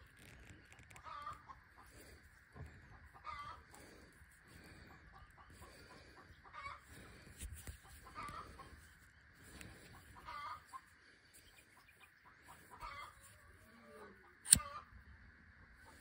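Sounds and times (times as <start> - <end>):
chickens clucking: 1.0 - 14.9.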